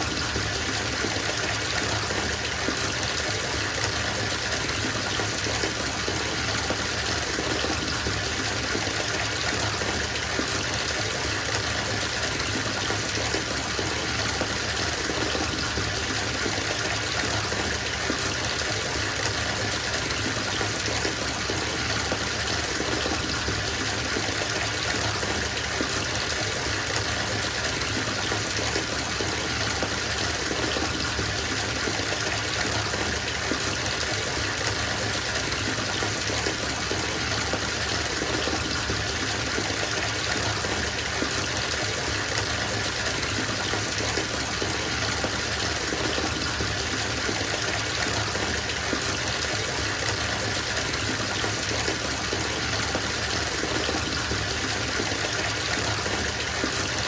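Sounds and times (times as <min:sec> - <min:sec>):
running water splashing into tub: 0:00.0 - 0:57.0.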